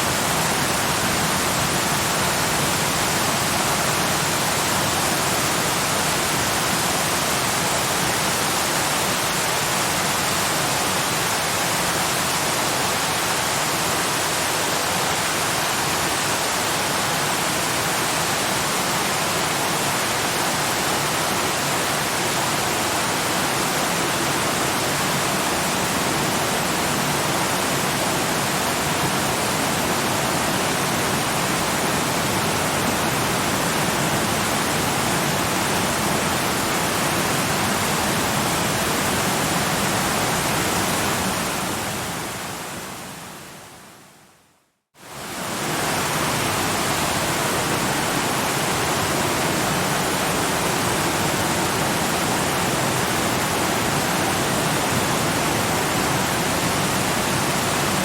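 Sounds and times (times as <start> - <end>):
waterfall rushing: 0.0 - 43.2, 45.0 - 58.0.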